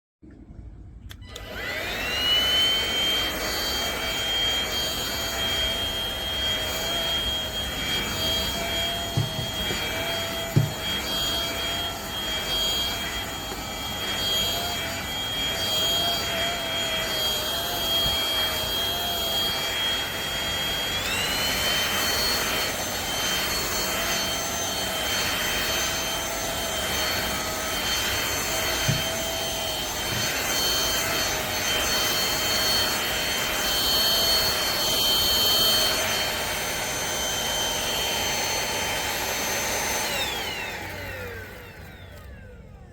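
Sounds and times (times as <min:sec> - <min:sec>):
vacuum cleaner motor whining: 0:01.1 - 0:42.9.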